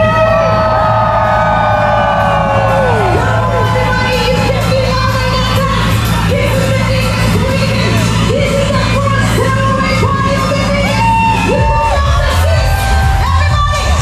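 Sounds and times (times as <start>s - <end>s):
loud pop music with singing: 0.0s - 14.0s.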